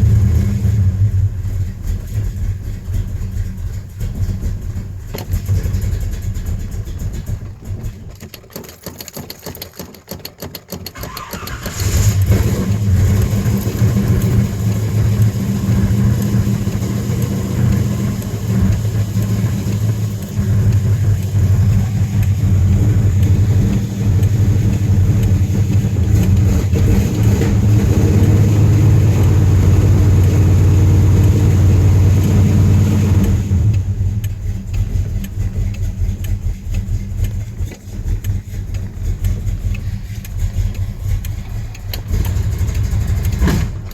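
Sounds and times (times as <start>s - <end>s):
car engine revving: 0.0s - 8.1s, 11.0s - 43.9s
car engine cranking and starting: 0.0s - 43.9s
car engine idling: 0.0s - 43.9s.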